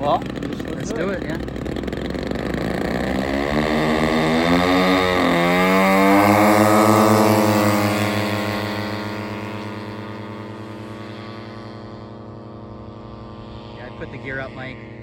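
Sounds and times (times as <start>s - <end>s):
model plane engines revving: 0.0s - 15.0s.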